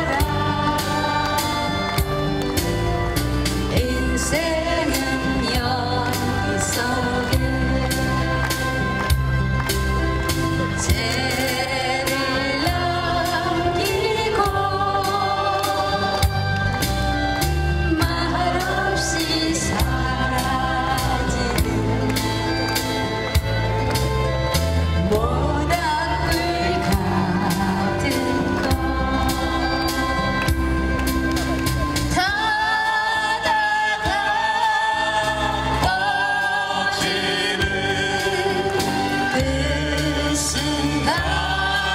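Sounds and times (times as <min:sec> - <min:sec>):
instrumental accompaniment with beat: 0:00.0 - 0:41.9
person singing live: 0:00.0 - 0:41.9.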